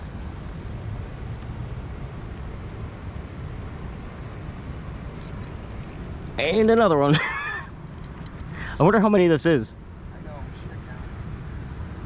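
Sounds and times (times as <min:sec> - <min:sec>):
insects trilling: 0:00.0 - 0:12.0
rushing background noise: 0:00.0 - 0:12.0.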